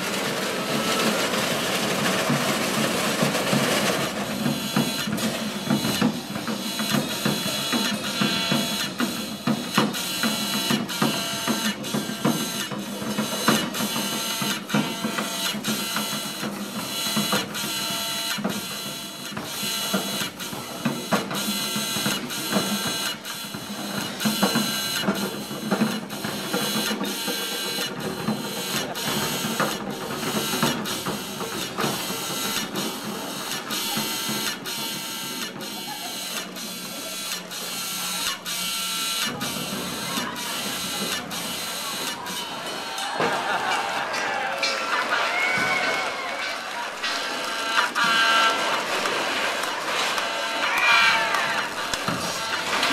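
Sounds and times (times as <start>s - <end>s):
rhythmic mechanical clicking: 0.0s - 52.9s.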